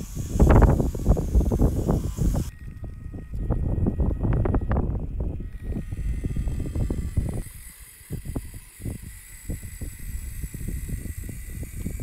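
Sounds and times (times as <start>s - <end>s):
high motor whine: 0.0s - 12.0s.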